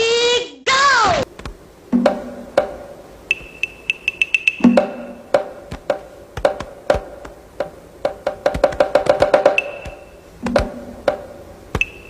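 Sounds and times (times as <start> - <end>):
high ticks: 1.3 - 12.0
sharp ringing percussion knocks: 2.0 - 12.0.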